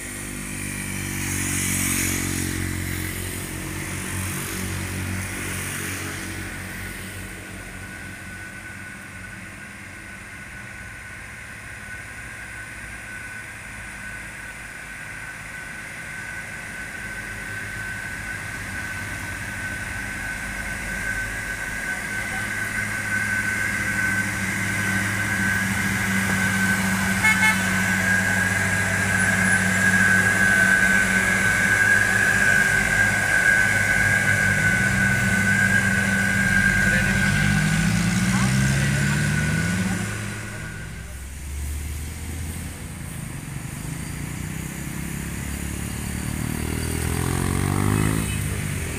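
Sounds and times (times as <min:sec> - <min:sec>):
high whine: 0:00.0 - 0:48.9
truck diesel engine labouring: 0:00.0 - 0:48.9.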